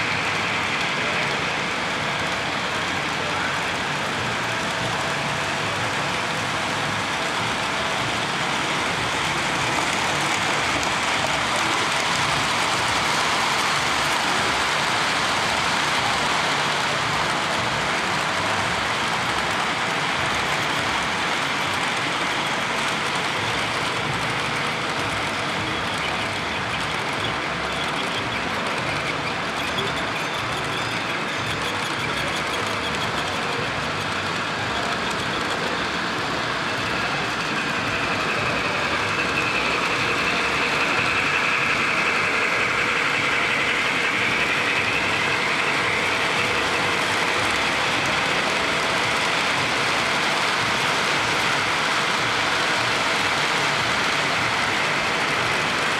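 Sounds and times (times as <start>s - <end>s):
model train wheels rolling on rails: 0.0s - 55.9s.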